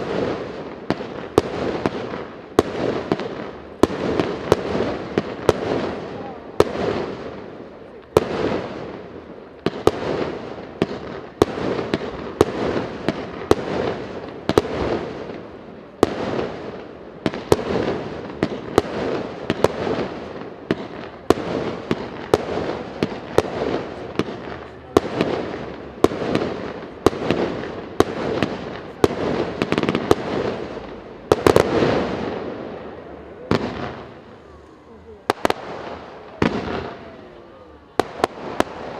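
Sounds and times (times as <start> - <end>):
fireworks bangs with echo: 0.0 - 38.9.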